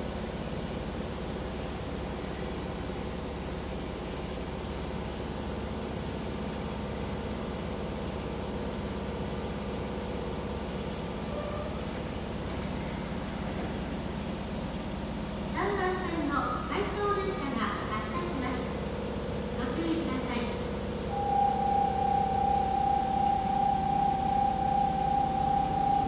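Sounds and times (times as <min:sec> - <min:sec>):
train electrical equipment humming: 0:00.0 - 0:26.0.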